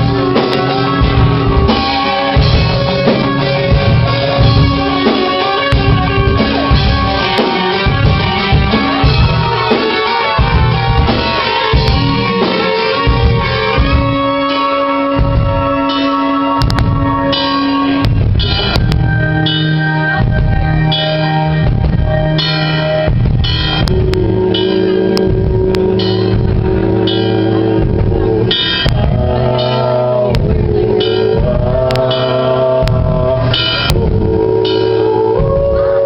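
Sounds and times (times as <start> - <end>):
drum kit beat: 0.0 - 36.0
held melodic notes: 0.0 - 36.0.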